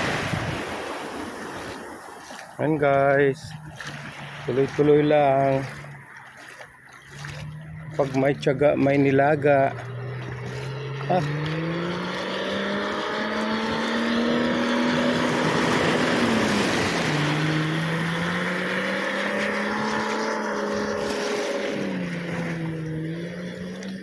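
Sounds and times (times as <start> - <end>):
motorboat engine running: 0.0 - 24.0
surf: 0.0 - 24.0
wind: 0.0 - 24.0.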